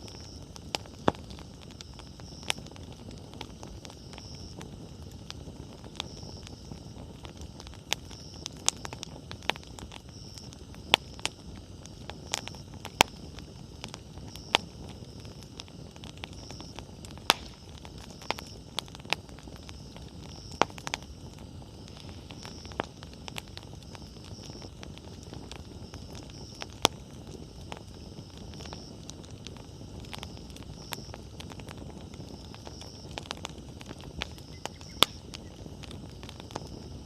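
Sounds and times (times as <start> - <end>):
campfire crackling and popping: 0.0 - 37.0
flames rushing: 0.0 - 37.0.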